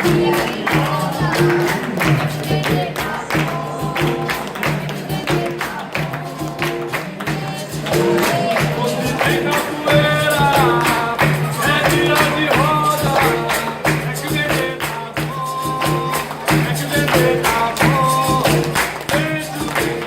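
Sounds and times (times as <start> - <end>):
percussion rhythm with tambourine: 0.0 - 20.0
voices singing: 0.0 - 20.0.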